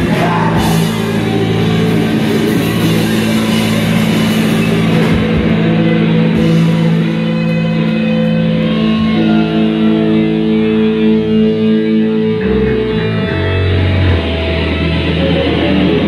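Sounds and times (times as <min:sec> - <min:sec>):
electric guitar and bass sustained notes: 0:00.0 - 0:16.0.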